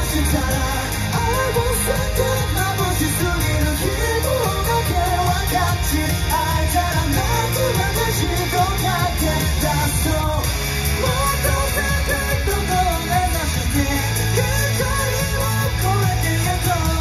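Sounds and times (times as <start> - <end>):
pop-rock song with vocals: 0.0 - 17.0.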